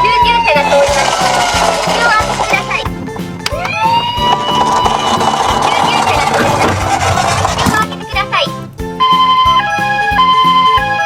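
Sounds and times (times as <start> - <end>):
buzzing toy ambulance siren: 0.0 - 2.8, 3.6 - 7.8, 9.0 - 11.0
background music with beat: 0.0 - 11.0.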